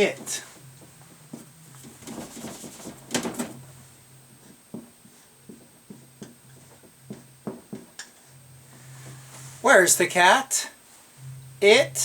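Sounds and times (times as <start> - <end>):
faint steady low hum: 0.0 - 12.0.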